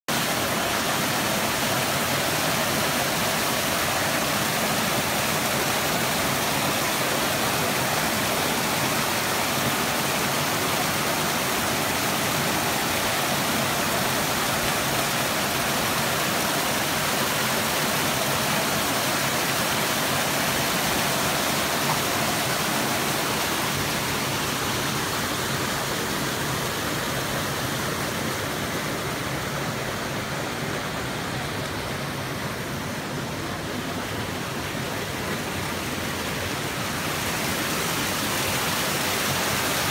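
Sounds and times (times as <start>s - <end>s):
water splashing over rocks: 0.1s - 28.0s, 33.7s - 39.9s.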